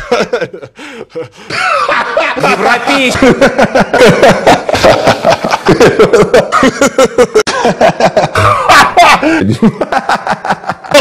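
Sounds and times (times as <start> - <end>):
man laughing hard: 0.0 - 11.0.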